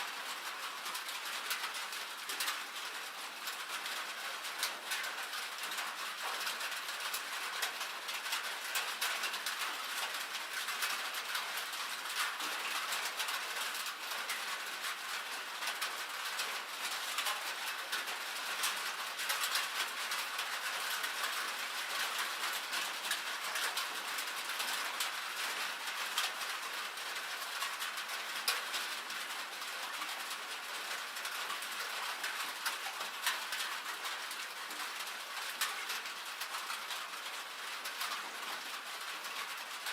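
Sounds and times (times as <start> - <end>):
rain and hail on metal roof: 0.0 - 39.9.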